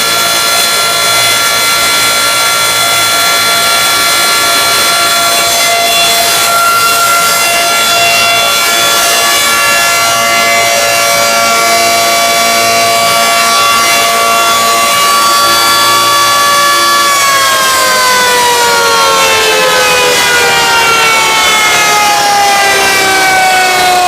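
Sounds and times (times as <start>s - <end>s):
air raid siren: 0.0s - 24.0s.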